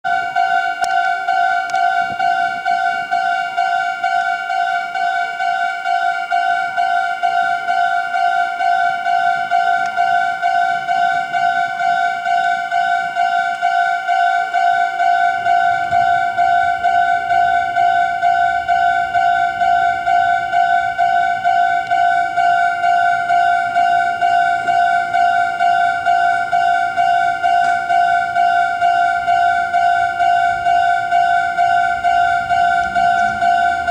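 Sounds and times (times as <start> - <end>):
level crossing warning bell: 0.0 - 33.9
train rumble: 0.1 - 33.9.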